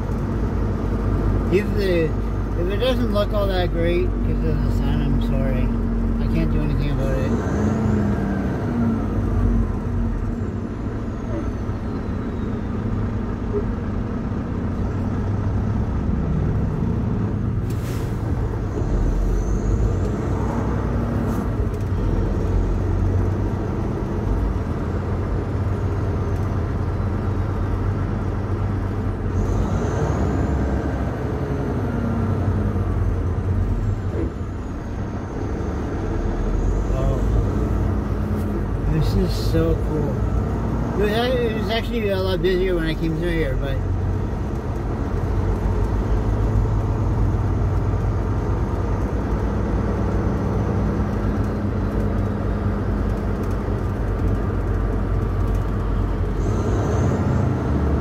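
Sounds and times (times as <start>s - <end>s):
truck diesel engine: 0.0s - 58.0s.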